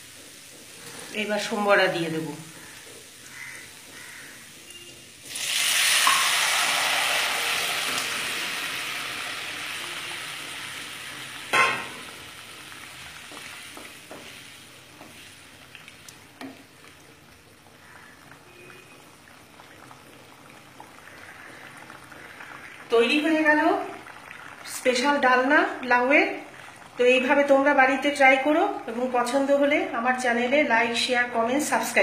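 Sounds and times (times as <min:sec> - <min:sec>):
ghee sizzling loudly: 0:00.0 - 0:29.4.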